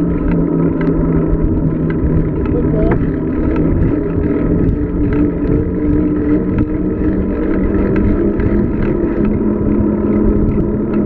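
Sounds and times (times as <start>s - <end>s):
steady hum: 0.0s - 11.0s
wind buffeting microphone: 0.0s - 11.0s.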